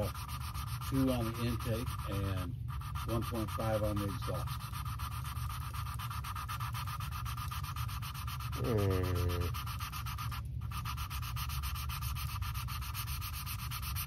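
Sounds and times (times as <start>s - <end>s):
valve grinding on seat: 0.0s - 14.0s.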